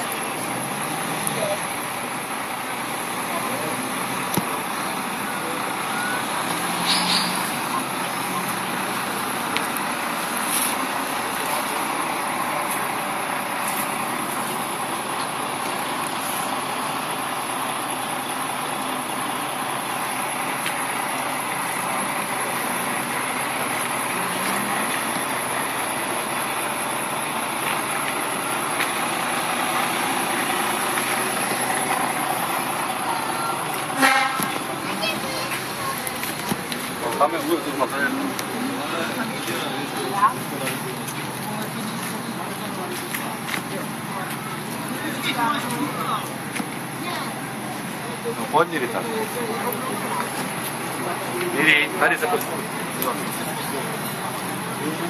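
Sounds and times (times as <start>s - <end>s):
truck engines running: 0.0s - 55.0s.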